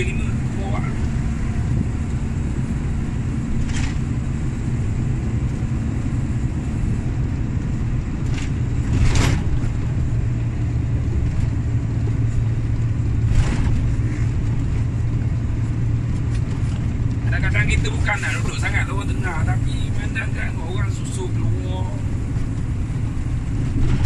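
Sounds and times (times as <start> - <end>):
truck engine drone: 0.0 - 24.0
tyre and road noise: 0.0 - 24.0.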